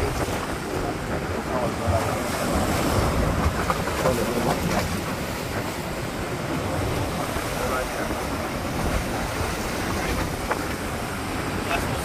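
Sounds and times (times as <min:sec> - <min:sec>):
surf breaking on rocks: 0:00.0 - 0:12.0
wind buffeting microphone: 0:00.0 - 0:12.0.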